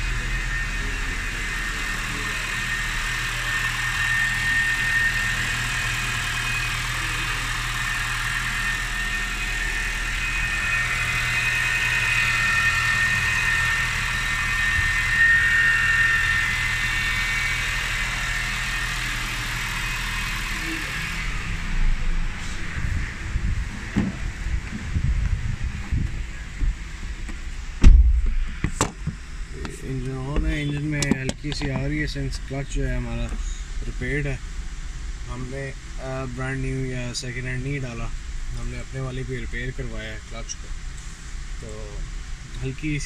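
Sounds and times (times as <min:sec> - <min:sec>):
car engine idling: 0:00.0 - 0:43.0
faint high whine: 0:00.0 - 0:43.0.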